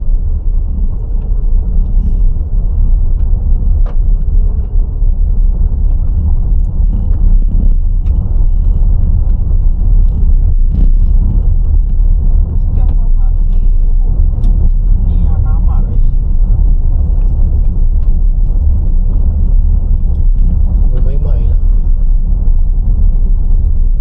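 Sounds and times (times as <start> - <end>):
loud low rumble: 0.0 - 24.0.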